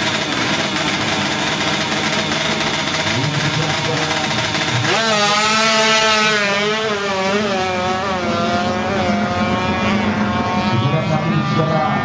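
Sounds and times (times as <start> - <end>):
motorcycle engine revving hard: 0.0 - 12.0.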